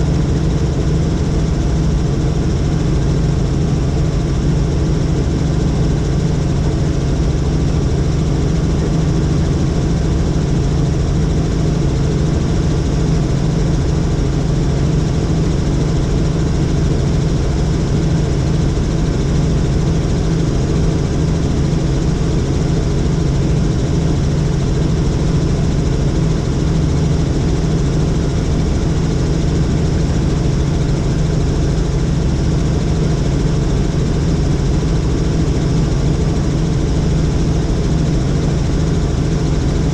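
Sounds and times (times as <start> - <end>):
helicopter engine and rotor hum: 0.0 - 39.9.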